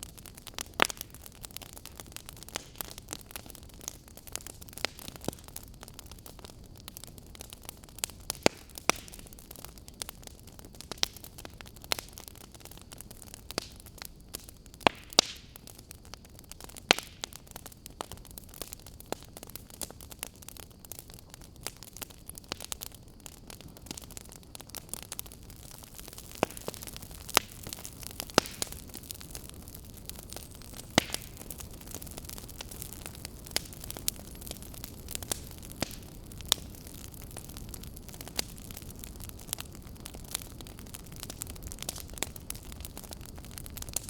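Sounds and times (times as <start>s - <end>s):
fire crackling with snaps: 0.0s - 44.0s
low steady hiss: 0.0s - 44.0s.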